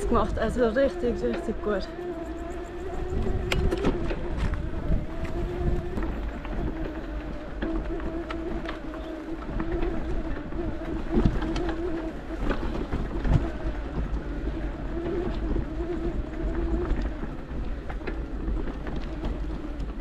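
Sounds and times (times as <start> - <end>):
bike tyres crunching over stones: 0.0 - 20.0
wavering hum: 0.0 - 20.0
wind rumbling on microphone: 0.0 - 20.0.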